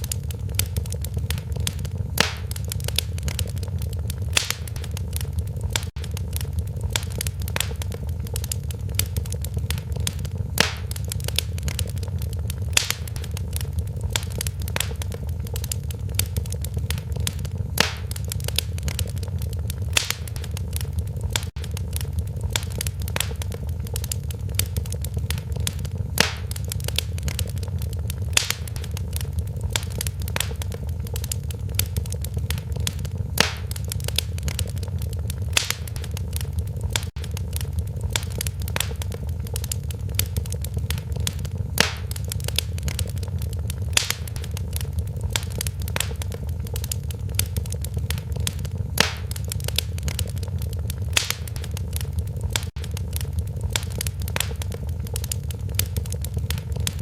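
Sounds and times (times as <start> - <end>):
low rumble: 0.0 - 57.0
wood fire crackling: 0.0 - 57.0.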